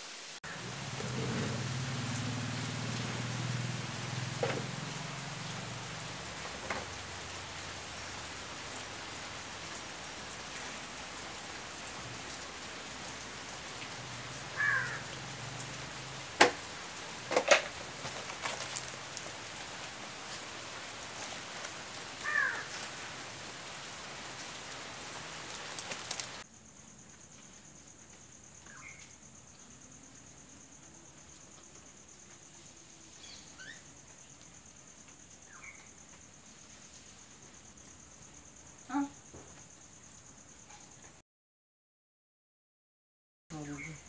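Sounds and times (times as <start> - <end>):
steady hiss: 0.0 - 28.5, 29.1 - 38.8.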